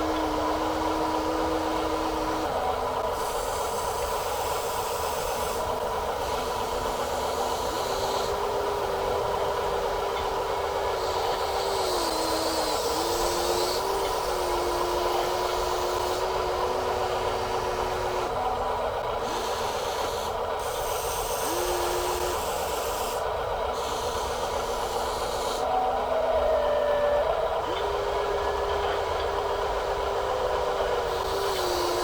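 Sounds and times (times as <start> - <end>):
toy electric motors whining: 0.0 - 30.1, 30.8 - 32.0.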